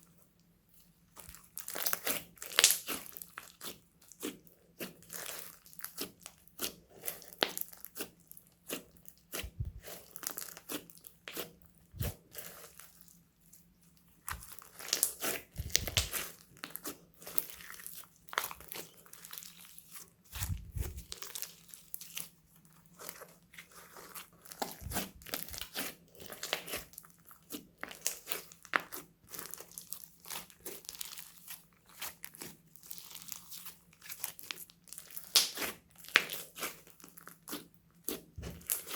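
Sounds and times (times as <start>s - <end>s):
slime squished by hand: 1.1s - 13.1s, 14.2s - 22.3s, 22.9s - 38.9s.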